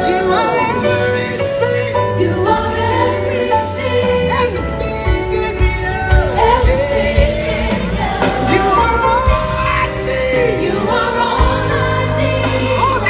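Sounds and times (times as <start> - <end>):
gospel singers with band: 0.0 - 13.0.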